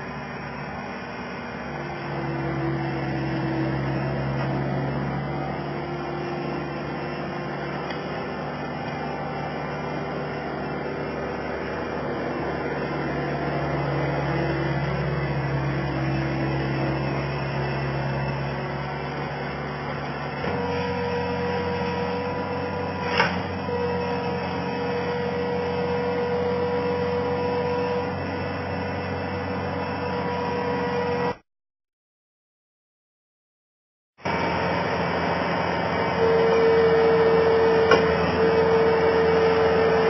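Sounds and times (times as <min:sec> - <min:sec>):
loader engine running: 0:00.0 - 0:31.4, 0:34.2 - 0:40.0.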